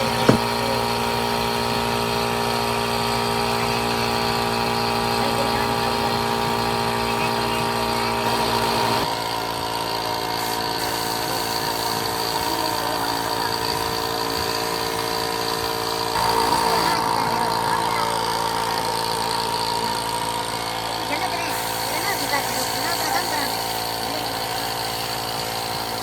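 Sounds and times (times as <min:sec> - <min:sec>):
motor-driven machine running: 0:00.0 - 0:26.0.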